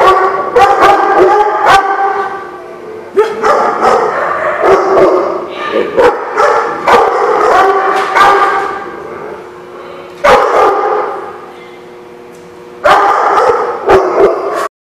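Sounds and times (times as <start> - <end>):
dogs barking: 0.0 - 9.0, 10.2 - 11.5, 12.8 - 14.7.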